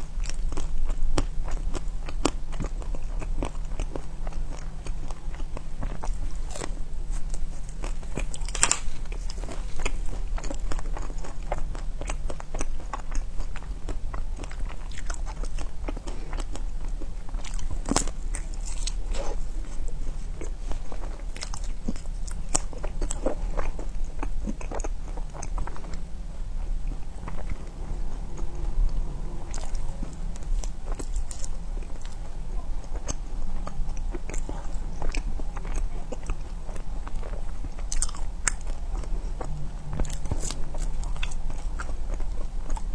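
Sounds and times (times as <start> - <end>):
crunchy ice cream biting: 0.0 - 42.9
steady low hum: 0.0 - 42.9.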